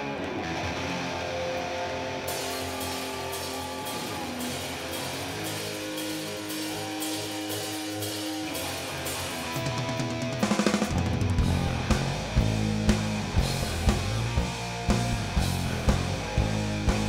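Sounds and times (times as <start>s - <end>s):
bass guitar: 0.0s - 17.0s
electric guitar sliding notes: 0.0s - 17.0s
drums with cymbal crashes: 2.3s - 17.0s.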